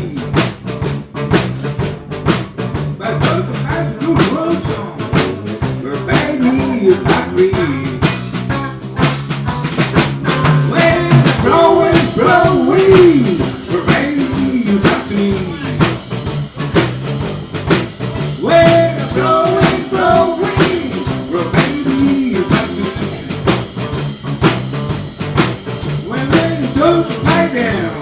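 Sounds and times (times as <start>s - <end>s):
bass line: 0.0s - 28.0s
drum kit beat: 0.0s - 28.0s
sliding lead melody: 0.4s - 28.0s.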